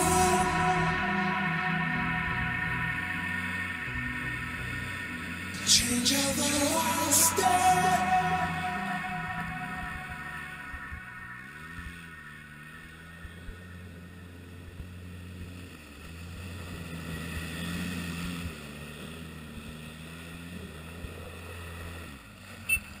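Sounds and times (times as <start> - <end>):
buggy engine running: 0.0 - 23.0.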